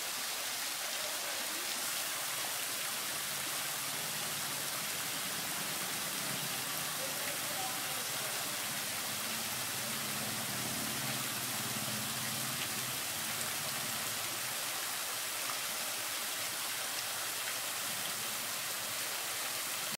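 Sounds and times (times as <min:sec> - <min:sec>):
fountain water splashing: 0:00.0 - 0:19.9.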